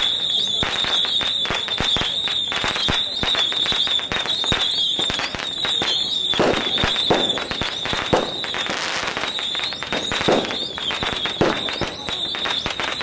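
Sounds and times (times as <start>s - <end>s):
firecrackers popping: 0.0s - 13.0s.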